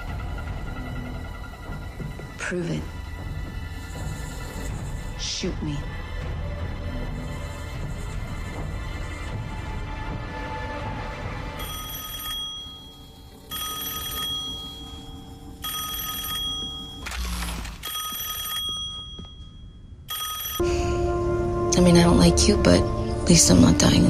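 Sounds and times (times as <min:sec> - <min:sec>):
music: 0:00.0 - 0:17.9, 0:20.6 - 0:24.0.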